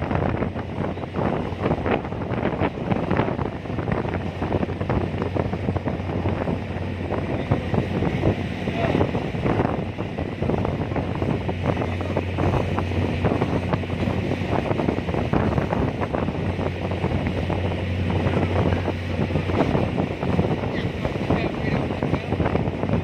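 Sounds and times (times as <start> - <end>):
ferry engine drone: 0.0 - 23.0
wind buffeting microphone: 0.0 - 23.0.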